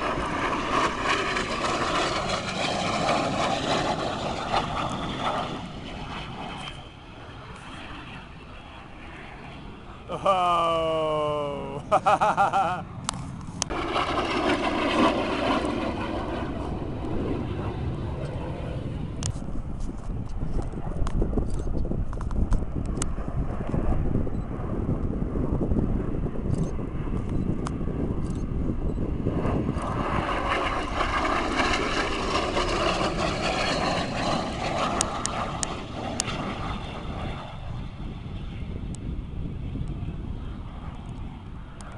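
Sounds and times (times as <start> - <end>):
jet flying past: 0.0 - 41.9.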